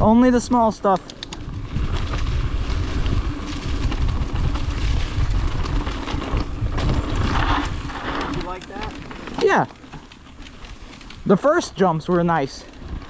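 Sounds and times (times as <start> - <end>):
bike rolling on dirt trail: 0.0 - 13.0
wind rumbling on microphone: 0.0 - 13.0.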